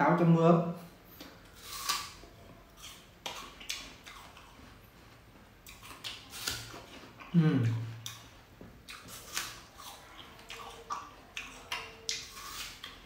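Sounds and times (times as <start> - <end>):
person chewing crisp apple: 1.1 - 5.0, 5.6 - 13.0.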